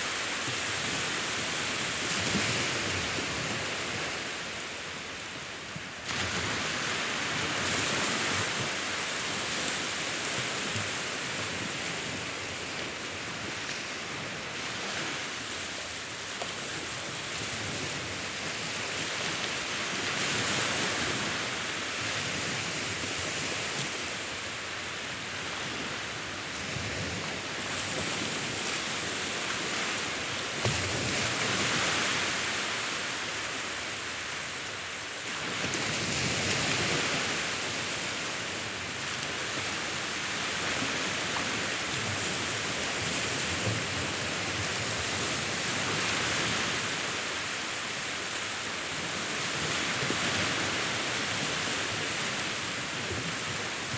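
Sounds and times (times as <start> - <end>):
sea waves breaking: 6.0 - 53.9.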